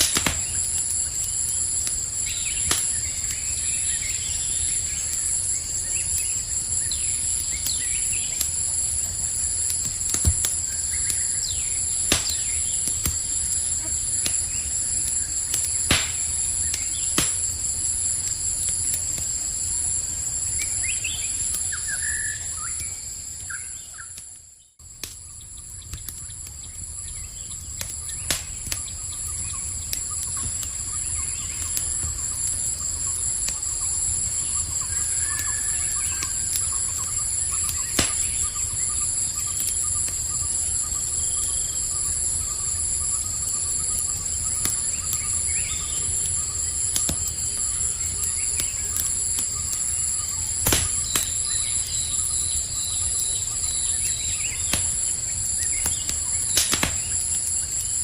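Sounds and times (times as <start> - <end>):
campfire crackling: 0.0 - 58.0
night insects chorus: 0.0 - 58.0.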